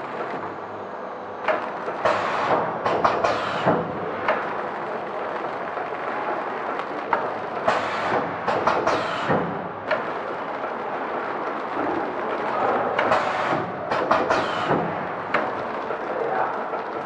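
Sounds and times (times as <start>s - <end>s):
wrapping machine running: 0.0s - 17.0s.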